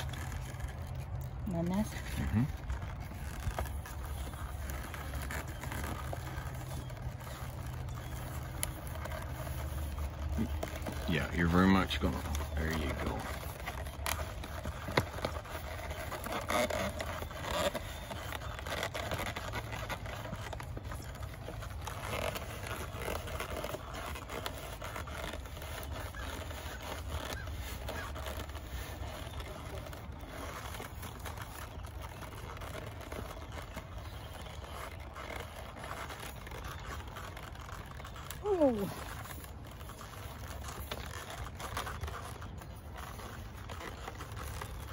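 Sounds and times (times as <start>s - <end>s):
leather scraping and rubbing: 0.0s - 44.9s.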